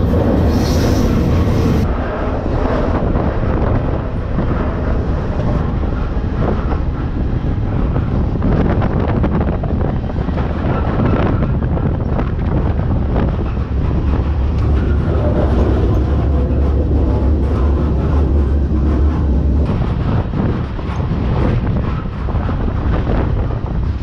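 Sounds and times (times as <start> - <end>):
train wheels rumbling on rail: 0.0 - 24.0
rattling clicks and clanks: 2.9 - 24.0.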